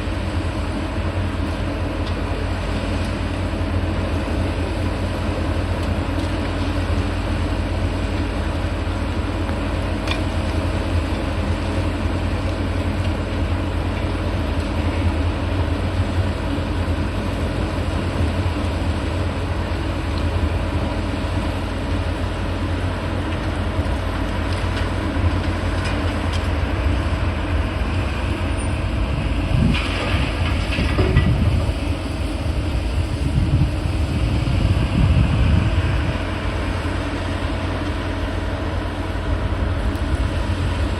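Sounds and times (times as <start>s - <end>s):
heavy diesel machinery rumbling: 0.0s - 40.9s.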